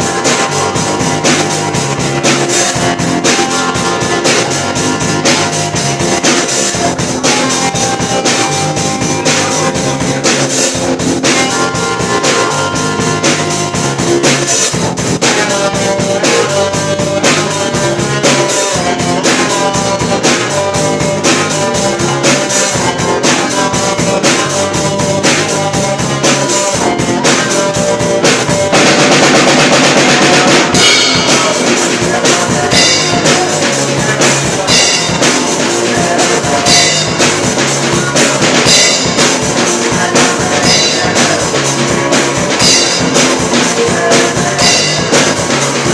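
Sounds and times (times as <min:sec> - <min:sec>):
drum kit beat: 0:00.0 - 0:45.9
guitar: 0:00.0 - 0:45.9.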